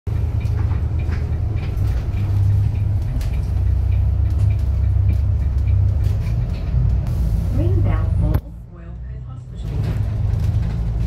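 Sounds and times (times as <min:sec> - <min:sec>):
bus engine rumble: 0:00.1 - 0:11.0.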